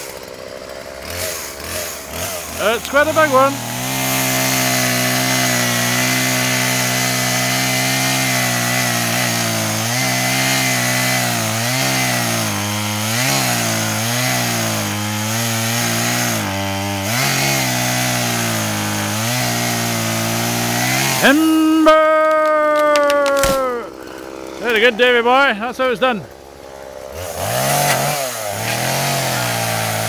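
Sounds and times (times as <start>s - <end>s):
chainsaw cutting a tree: 0.0s - 30.0s.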